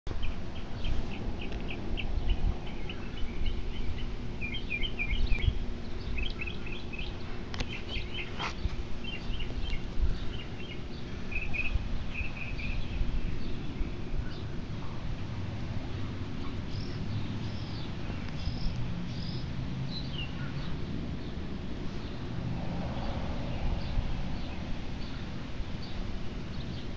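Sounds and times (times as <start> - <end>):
small birds chirping: 0.1 - 26.9.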